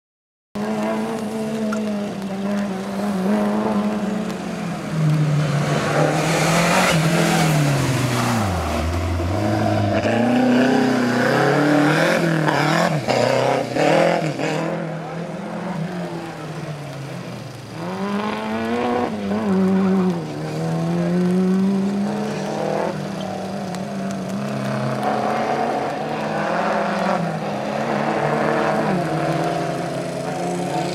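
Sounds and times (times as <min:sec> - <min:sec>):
rally car engine revving: 0:00.6 - 0:30.9.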